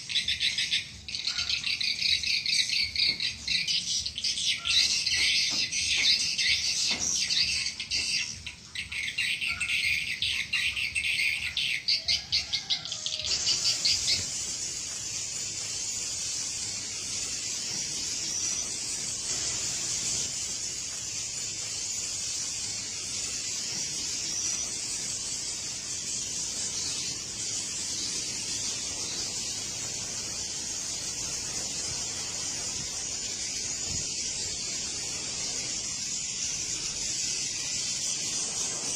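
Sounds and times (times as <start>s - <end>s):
swiftlets twittering: 0.0s - 38.9s.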